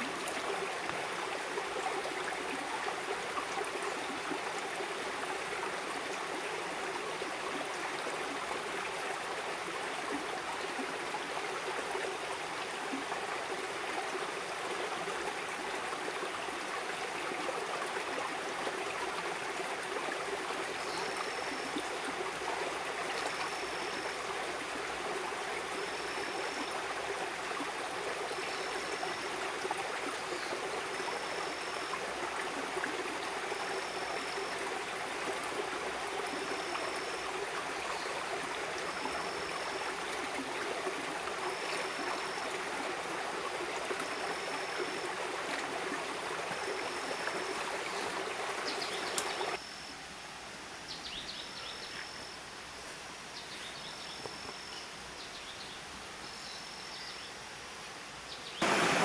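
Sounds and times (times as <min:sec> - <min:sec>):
river flowing over rocks: 0:00.0 - 0:49.6, 0:58.6 - 0:59.0.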